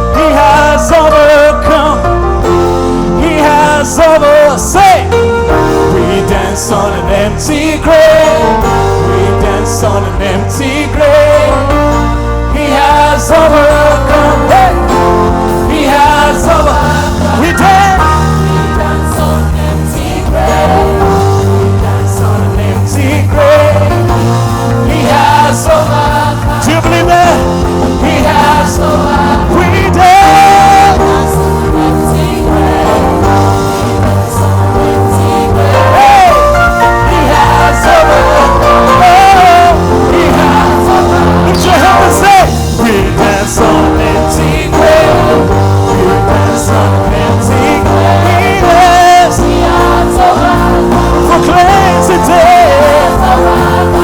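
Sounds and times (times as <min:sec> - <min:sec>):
sliding melody line: 0:00.0 - 0:54.0
worship band music: 0:00.0 - 0:54.0.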